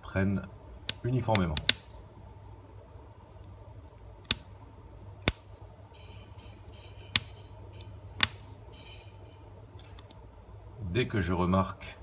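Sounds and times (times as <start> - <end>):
kindling crackling: 0.0 - 11.1
low steady hum: 0.0 - 12.0
wood fire popping: 0.7 - 10.5.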